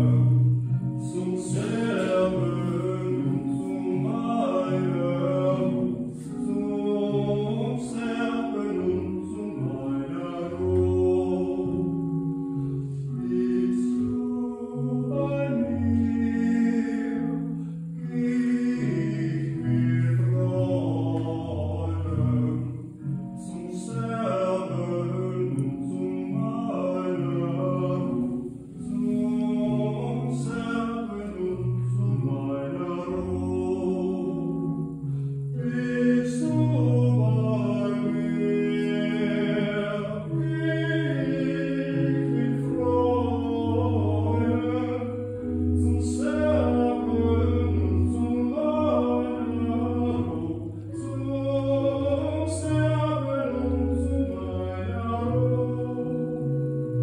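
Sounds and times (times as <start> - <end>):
church organ chords: 0.0 - 57.0
man singing: 0.0 - 57.0.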